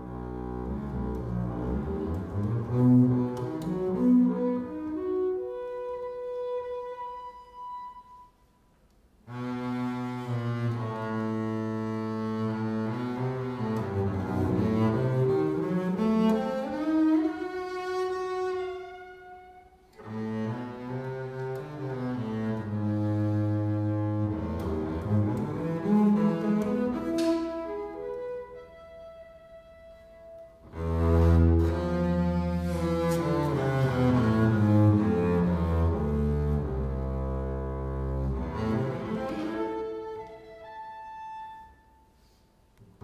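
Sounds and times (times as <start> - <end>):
bowed double bass: 0.0 - 7.7, 9.2 - 41.7.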